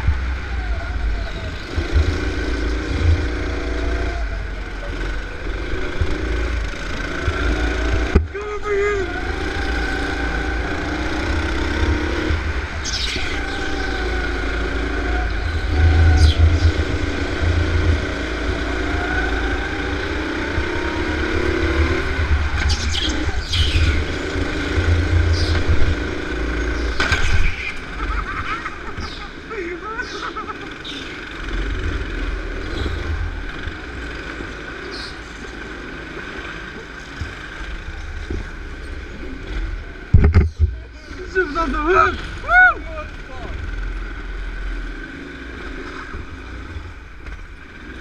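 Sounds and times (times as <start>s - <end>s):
go-kart engines running: 0.0s - 48.0s.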